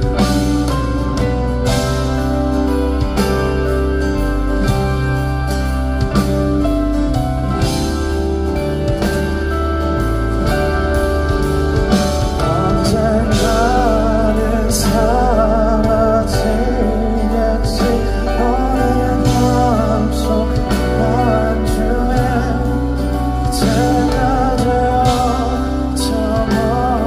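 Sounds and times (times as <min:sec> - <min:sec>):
live band music: 0:00.0 - 0:27.0
wavering melody line: 0:00.0 - 0:27.0.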